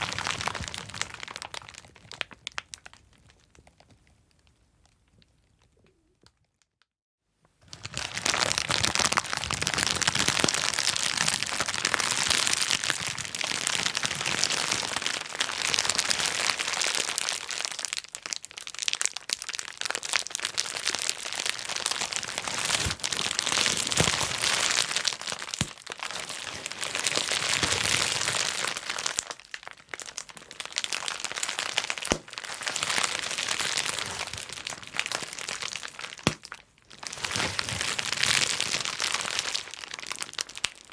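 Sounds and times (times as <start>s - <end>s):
bubble wrap popping: 0.0s - 6.4s, 7.6s - 40.9s.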